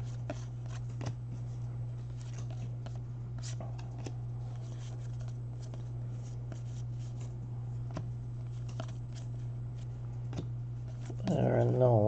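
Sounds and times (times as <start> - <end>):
cards being flipped through: 0.0 - 11.4
low electrical hum: 0.0 - 12.0.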